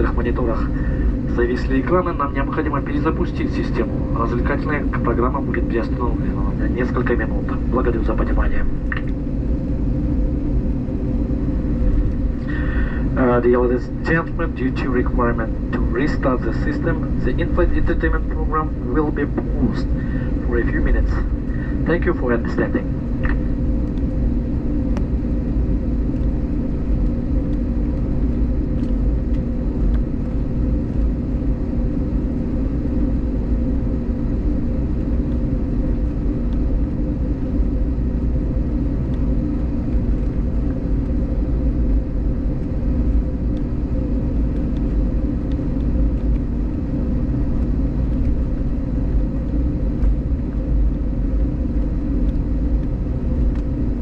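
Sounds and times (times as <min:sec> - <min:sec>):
airplane cabin drone: 0:00.0 - 0:54.0
faint steady hum tones: 0:00.0 - 0:54.0.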